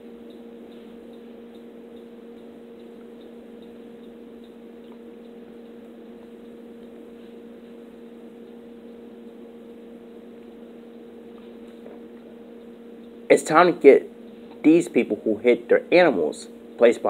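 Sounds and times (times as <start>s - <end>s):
steady two-pitch hum: 0.0s - 17.0s.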